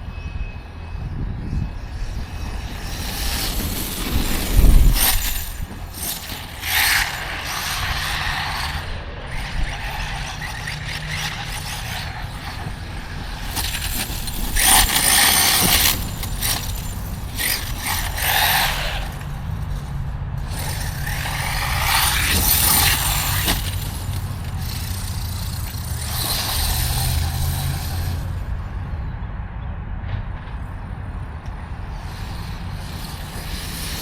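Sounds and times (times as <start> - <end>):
steady low rumble: 0.0 - 34.0
tires spraying dirt and gravel: 1.9 - 28.9, 31.0 - 34.0.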